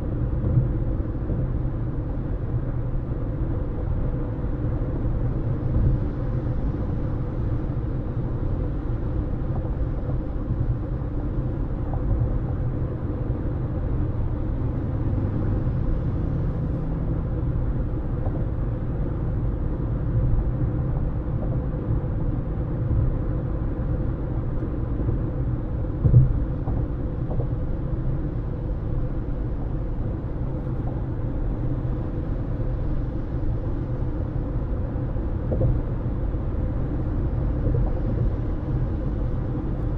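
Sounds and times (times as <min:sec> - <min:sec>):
car interior road noise: 0:00.0 - 0:39.9.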